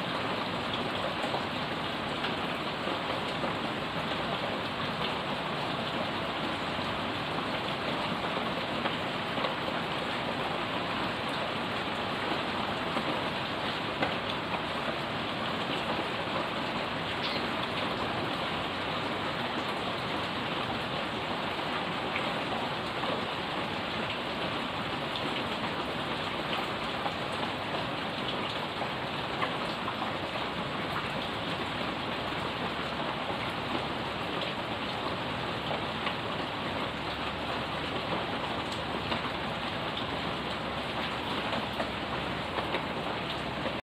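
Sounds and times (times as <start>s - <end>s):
heavy rain on pavement and leaves: 0.0s - 43.8s.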